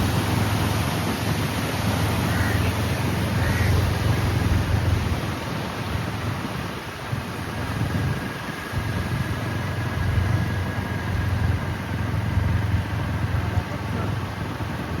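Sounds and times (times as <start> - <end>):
water rushing from dam spillway: 0.0 - 15.0.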